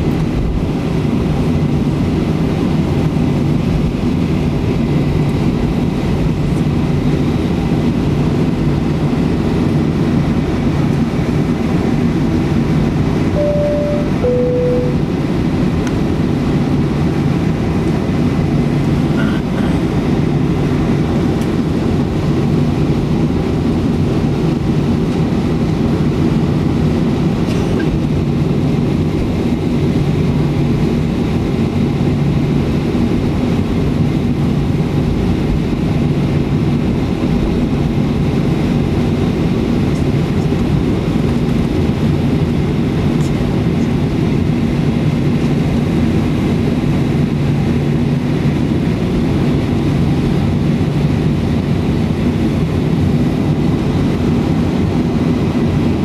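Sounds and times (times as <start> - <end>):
jet engines idling drone: 0.0 - 56.0.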